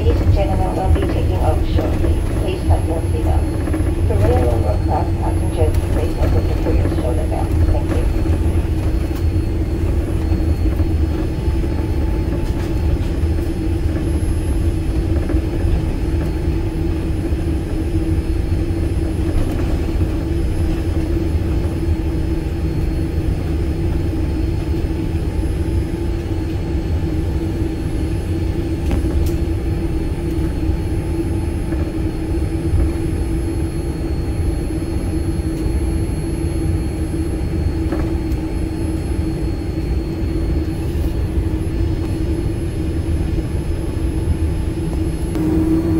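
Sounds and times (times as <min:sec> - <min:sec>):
constant hum: 0:00.0 - 0:45.9
jet engine rumble in cabin: 0:00.0 - 0:45.9.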